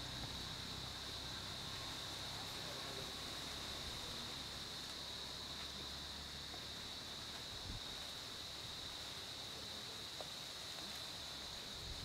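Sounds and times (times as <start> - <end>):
wind hiss: 0.0 - 12.0.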